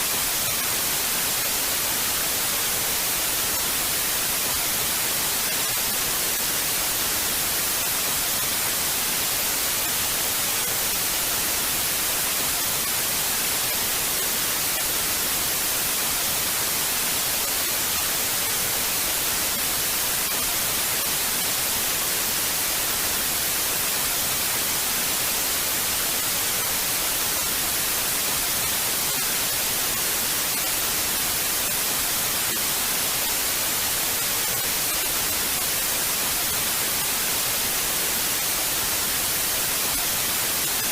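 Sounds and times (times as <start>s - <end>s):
television static hiss: 0.0s - 40.9s.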